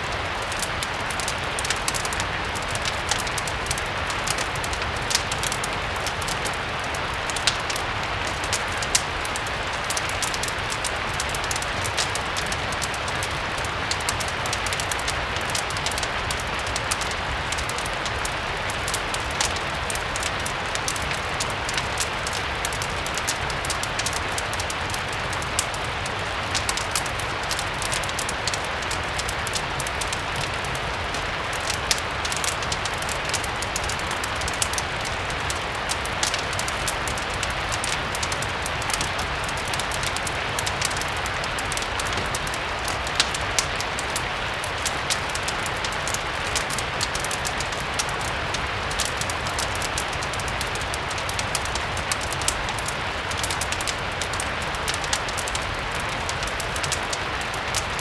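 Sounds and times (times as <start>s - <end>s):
fireplace crackling: 0.0s - 58.0s
steady rain: 0.0s - 58.0s.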